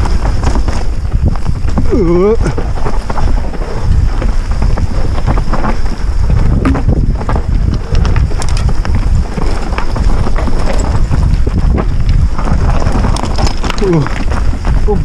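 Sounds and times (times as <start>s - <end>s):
bike clicks and rattles: 0.0s - 15.0s
bike tyres rumbling on dirt: 0.0s - 15.0s
wind buffeting microphone: 0.0s - 15.0s.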